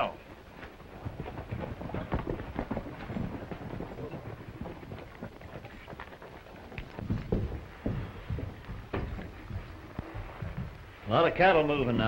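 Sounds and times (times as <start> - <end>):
hooves clopping on dirt: 0.0 - 12.0.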